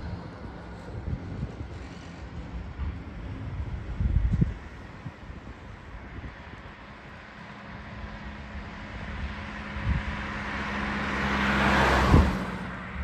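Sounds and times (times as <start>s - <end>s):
train approaching: 0.0s - 13.0s.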